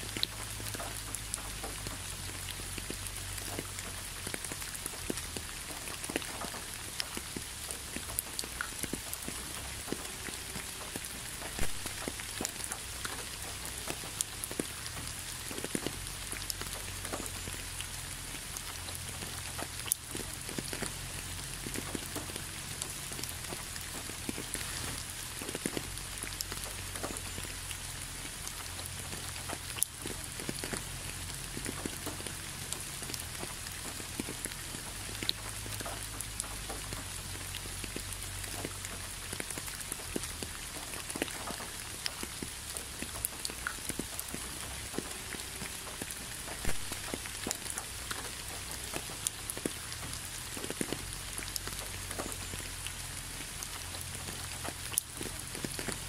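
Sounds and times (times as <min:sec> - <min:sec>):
rain on concrete: 0:00.0 - 0:56.0.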